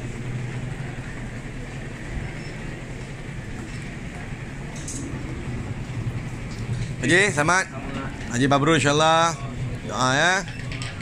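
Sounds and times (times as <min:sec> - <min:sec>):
busy airport gate background noise: 0:00.0 - 0:11.0.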